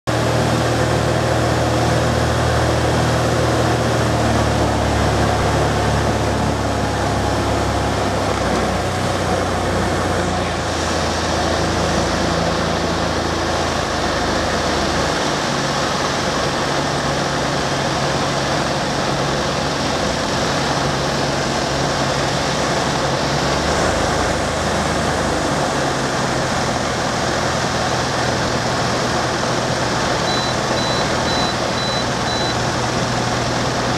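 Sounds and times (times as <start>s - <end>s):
aircraft engine droning: 0.1s - 33.9s
airflow rushing: 0.2s - 33.9s.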